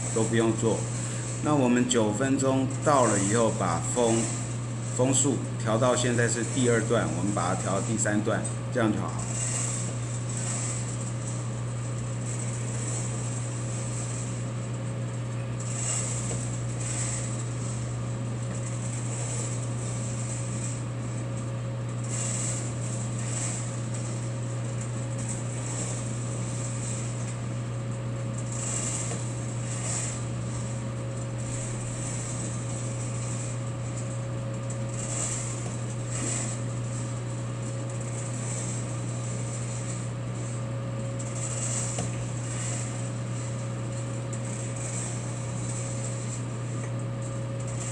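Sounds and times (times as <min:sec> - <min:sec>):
motor hum: 0:00.0 - 0:47.9.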